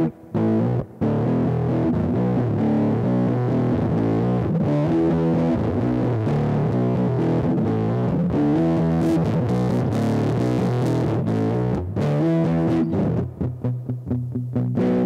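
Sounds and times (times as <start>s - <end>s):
fuzzed electric guitar chords: 0.0s - 15.0s.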